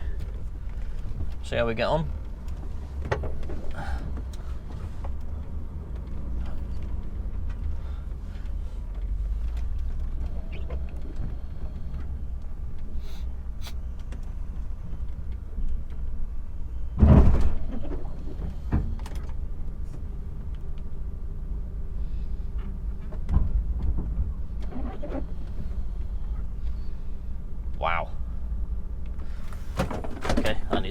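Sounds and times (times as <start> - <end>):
diesel engine rumbling: 0.0 - 30.9.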